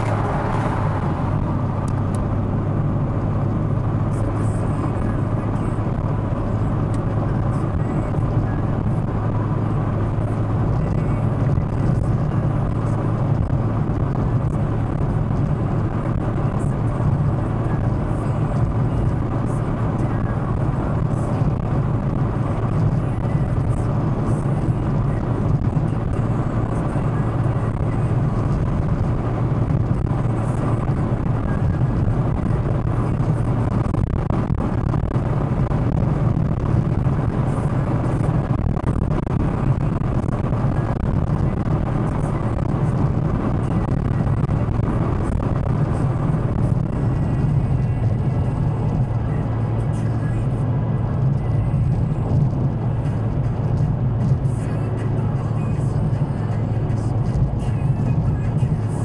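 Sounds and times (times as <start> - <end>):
engine and tyres humming: 0.0 - 59.0
wind and road noise: 0.0 - 59.0.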